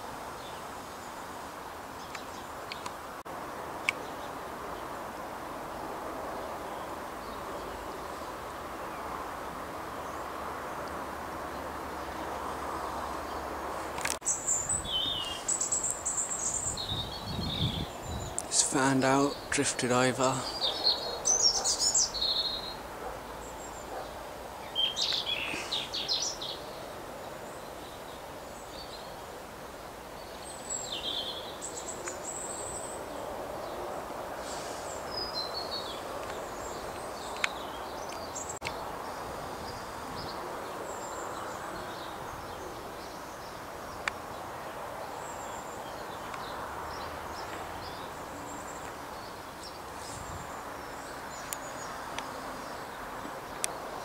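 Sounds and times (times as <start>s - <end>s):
small birds chirping: 0.0s - 3.0s, 11.5s - 29.4s, 30.0s - 54.0s
outdoor background hiss: 0.0s - 54.0s.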